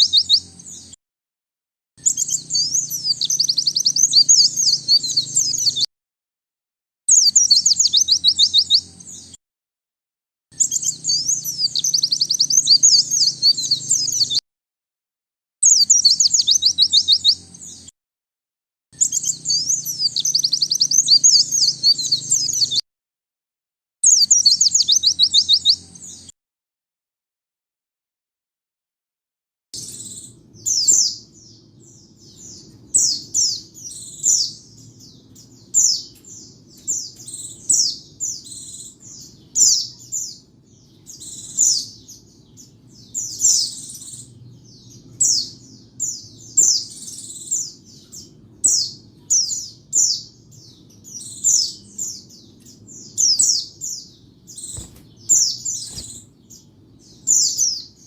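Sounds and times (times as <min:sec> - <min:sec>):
bird twittering song: 0:00.0 - 0:01.0, 0:02.0 - 0:05.9, 0:07.1 - 0:09.4, 0:10.5 - 0:14.4, 0:15.6 - 0:17.9, 0:19.0 - 0:22.8, 0:24.0 - 0:26.4, 0:29.8 - 0:58.0.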